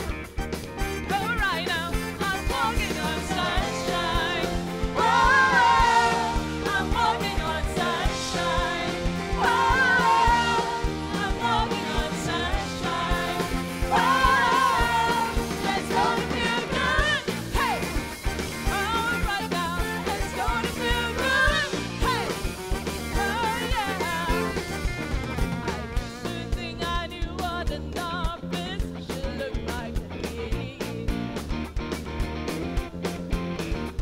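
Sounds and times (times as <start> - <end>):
instrumental backing with drums: 0.0 - 34.0.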